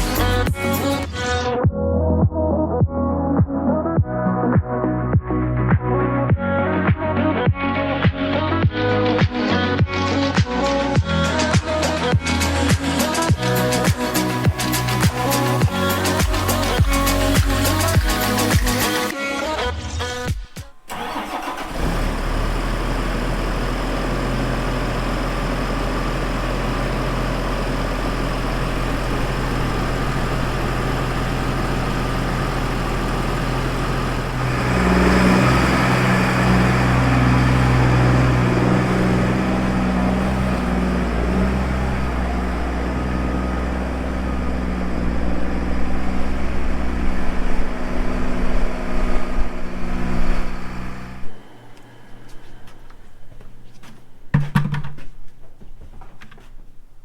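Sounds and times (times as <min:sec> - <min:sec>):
vehicle engine running: 0:00.0 - 0:01.5, 0:07.1 - 0:19.1, 0:21.0 - 0:54.3.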